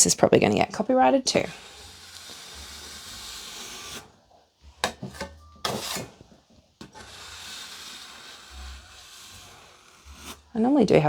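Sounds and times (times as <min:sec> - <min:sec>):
spatula scraping icing: 0:00.5 - 0:04.2, 0:04.8 - 0:11.0.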